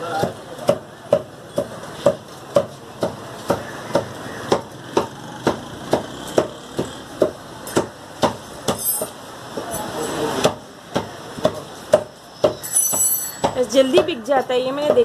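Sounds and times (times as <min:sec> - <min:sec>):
cleaver chopping on wooden block: 0:00.2 - 0:09.2, 0:10.4 - 0:14.1.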